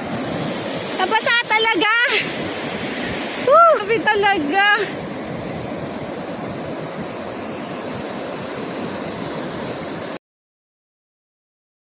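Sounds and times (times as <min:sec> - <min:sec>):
waves breaking on a beach: 0:00.0 - 0:10.2.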